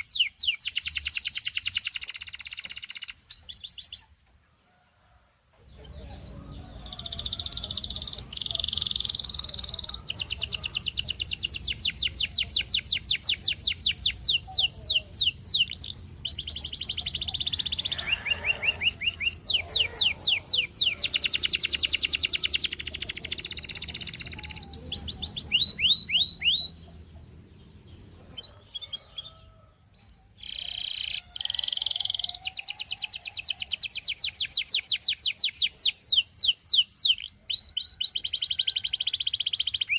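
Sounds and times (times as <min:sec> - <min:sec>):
canary singing trills: 0:00.0 - 0:04.2, 0:05.6 - 0:39.9.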